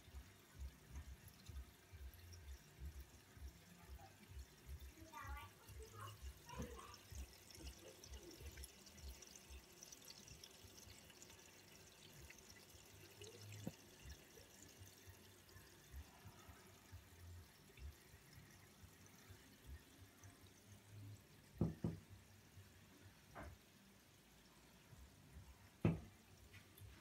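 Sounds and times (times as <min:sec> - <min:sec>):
small bubbles crackling: 0:00.0 - 0:22.1
aquarium filter bubbling: 0:00.0 - 0:27.0.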